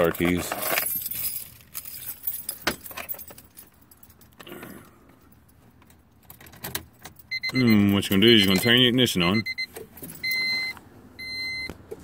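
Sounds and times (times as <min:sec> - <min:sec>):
car keys jangling: 0:00.0 - 0:08.9, 0:09.7 - 0:10.6.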